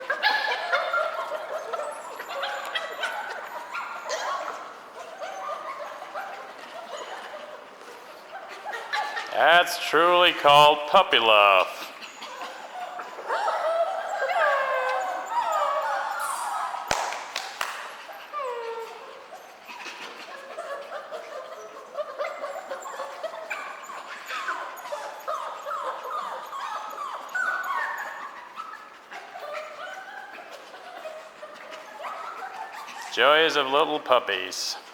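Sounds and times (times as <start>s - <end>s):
puppies whining and yipping: 0.0s - 9.3s, 11.8s - 33.1s.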